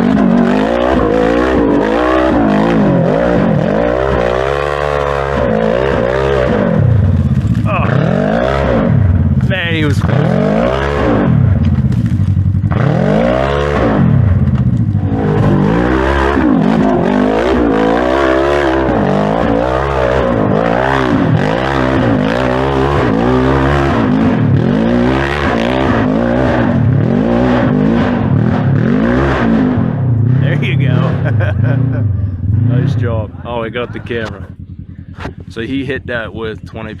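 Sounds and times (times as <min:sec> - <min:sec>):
engine revving hard: 0:00.0 - 0:34.4.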